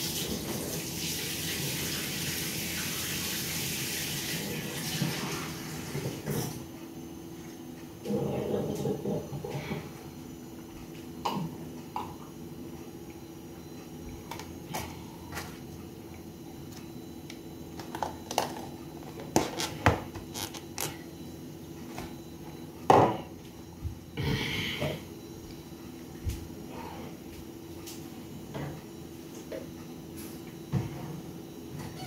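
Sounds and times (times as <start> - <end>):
steady low hum: 5.6 - 32.0.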